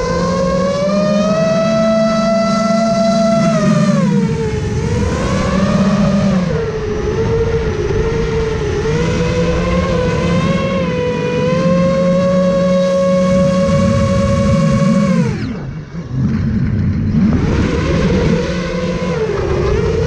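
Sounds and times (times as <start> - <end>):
quadcopter motors whining: 0.0 - 20.0
rushing wind noise: 0.0 - 20.0.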